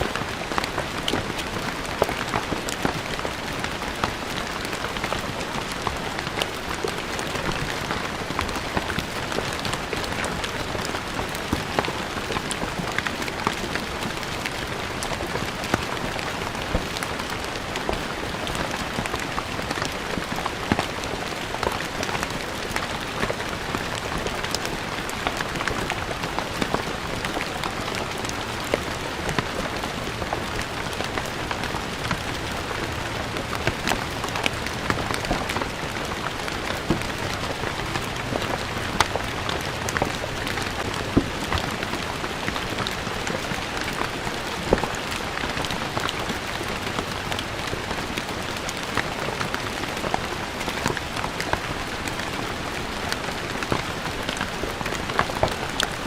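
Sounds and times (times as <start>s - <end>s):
rain on stone paving: 0.0s - 56.0s.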